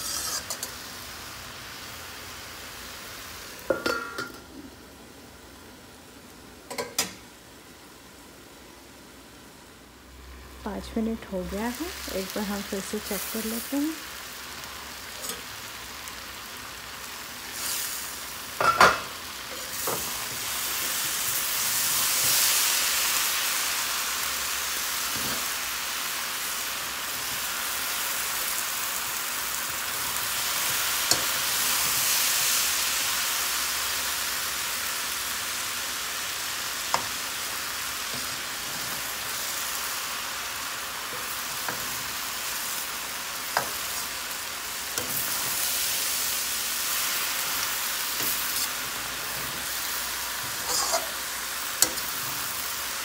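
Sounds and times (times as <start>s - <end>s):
vegetables sizzling in a frying pan: 0.0s - 53.0s.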